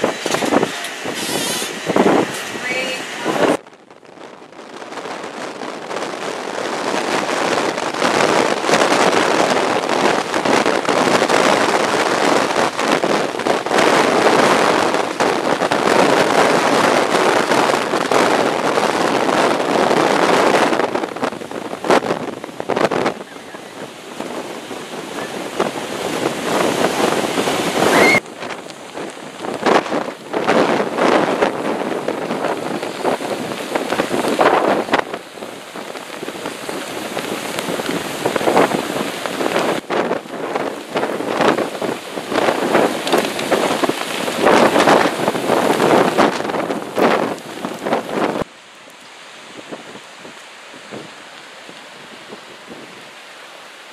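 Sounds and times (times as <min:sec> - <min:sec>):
storm wind buffeting microphone: 0:00.0 - 0:53.9.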